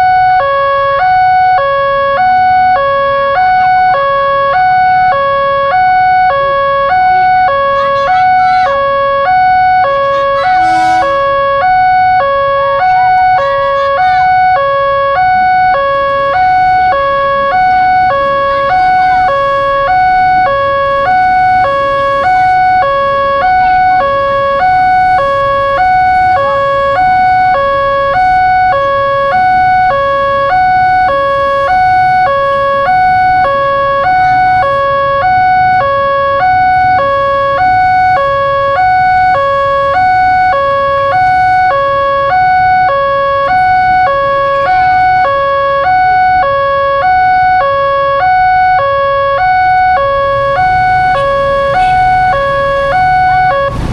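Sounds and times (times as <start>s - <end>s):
two-tone crossing alarm: 0.0s - 53.9s.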